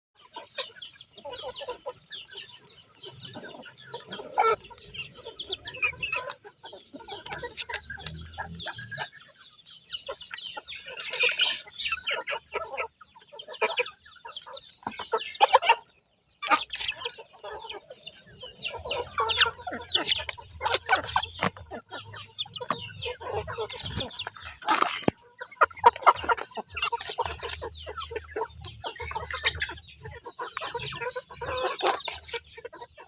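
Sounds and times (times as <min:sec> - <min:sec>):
chickens clucking: 0:00.2 - 0:33.0.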